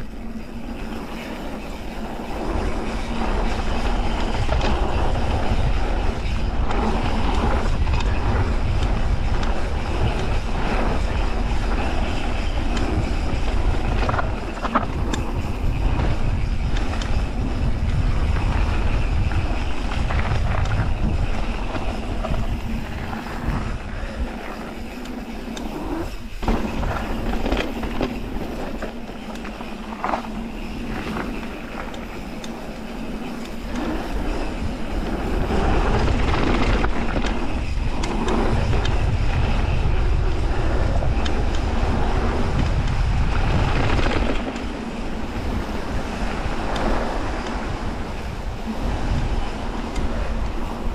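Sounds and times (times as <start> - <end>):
bike tyres crunching on gravel: 0.0 - 50.9
wind rumble on microphone: 0.0 - 50.9.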